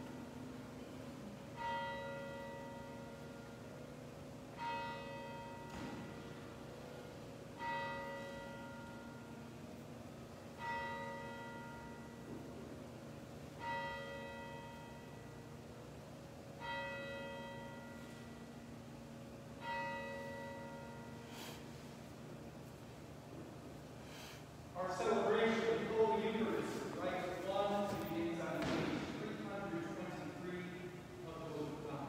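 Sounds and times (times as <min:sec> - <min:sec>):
church bell tolling: 0:00.0 - 0:22.8, 0:24.8 - 0:32.0.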